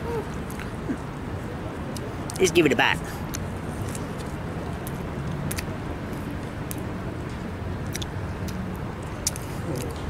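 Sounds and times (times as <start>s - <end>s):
chewing with soft crunches: 0.2s - 1.1s, 1.8s - 10.0s.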